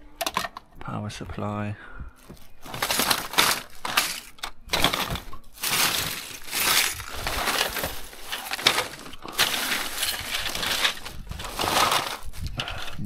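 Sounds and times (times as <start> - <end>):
hard plastic items clattering: 0.2 - 0.8, 2.2 - 13.0
plastic bags crinkling: 2.2 - 13.0.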